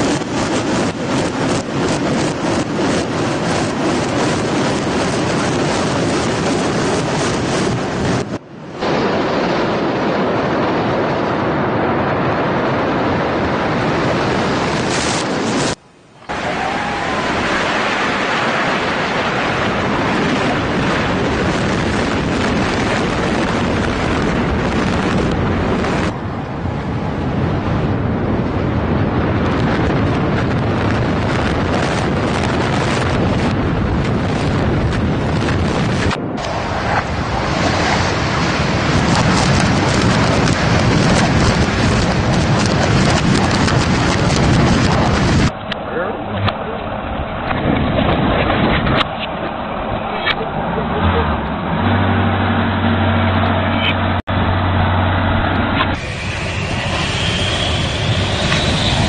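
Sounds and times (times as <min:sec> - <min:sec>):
rumbling roar of collapsing buildings: 0:00.0 - 0:59.0
wind noise on microphone: 0:00.0 - 0:59.0.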